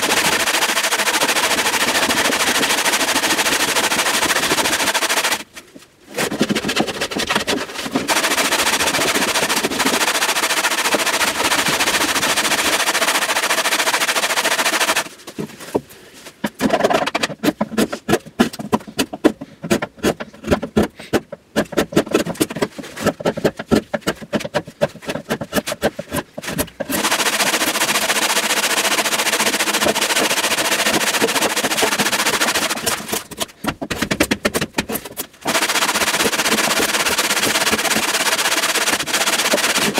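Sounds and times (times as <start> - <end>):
hand plane scraping wood: 6.1 - 15.8, 16.6 - 39.9.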